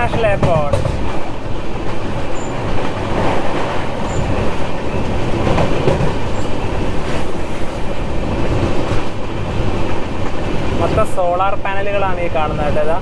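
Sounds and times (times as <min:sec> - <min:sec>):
clickety-clack of rail joints: 0:00.0 - 0:13.0
train wheels rumbling on rails: 0:00.0 - 0:13.0.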